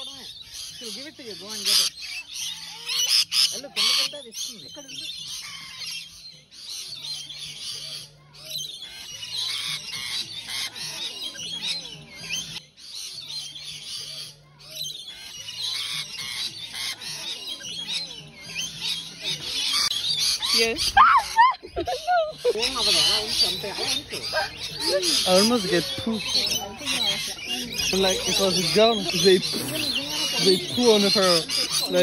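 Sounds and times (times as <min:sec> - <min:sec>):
lorikeets screeching and chattering: 0:00.0 - 0:32.0.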